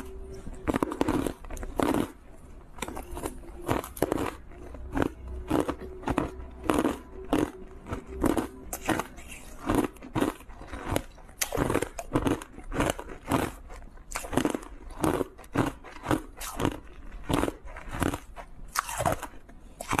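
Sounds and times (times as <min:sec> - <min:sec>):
ice being bitten and chewed: 0:00.0 - 0:20.0.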